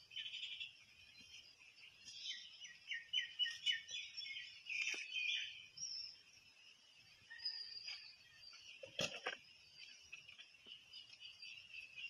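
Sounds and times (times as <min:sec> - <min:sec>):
birds singing high chirps: 0:00.0 - 0:12.0.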